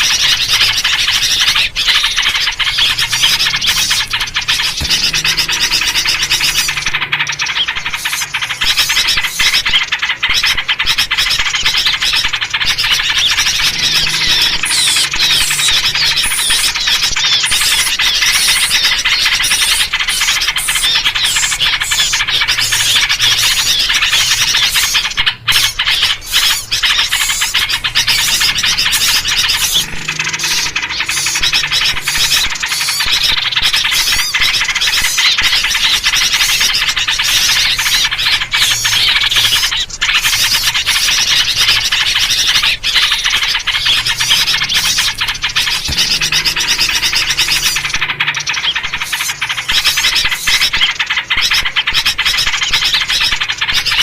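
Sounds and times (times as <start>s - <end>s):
bulbul calls: 0.0s - 54.0s
songbirds chirping: 0.0s - 54.0s.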